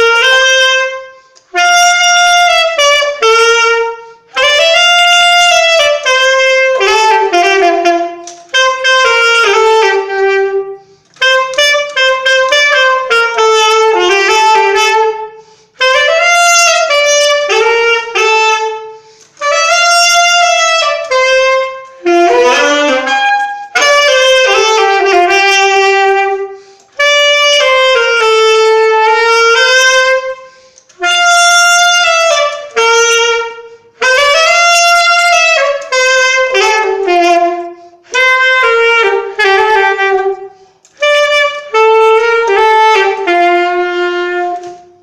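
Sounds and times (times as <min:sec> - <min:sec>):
solo saxophone melody: 0:00.0 - 0:45.0.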